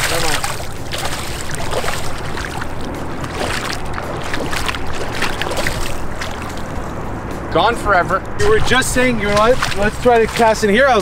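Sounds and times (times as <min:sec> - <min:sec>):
fish splashing in shallow water: 0:00.0 - 0:07.2, 0:08.4 - 0:11.0
low steady rumble: 0:00.0 - 0:11.0.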